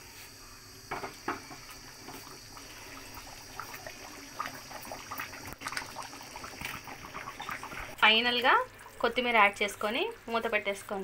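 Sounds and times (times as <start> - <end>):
curry bubbling in a pot: 0.7 - 11.0.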